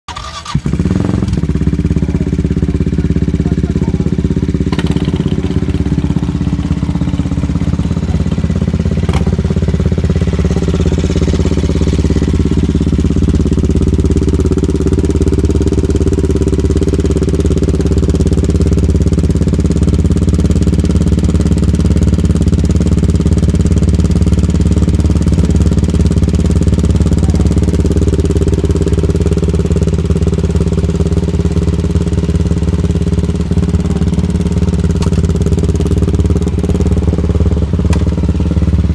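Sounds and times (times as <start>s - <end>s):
motorcycle engine idling: 0.1s - 38.9s.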